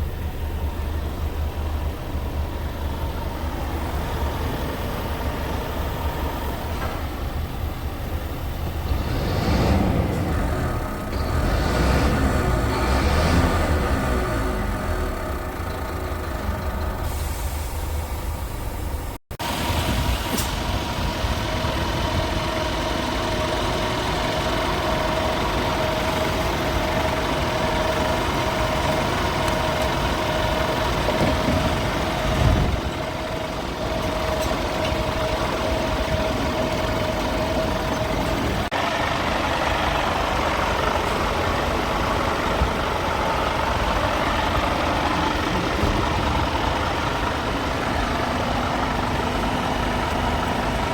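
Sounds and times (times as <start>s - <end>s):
truck diesel engine idling: 0.0s - 50.9s.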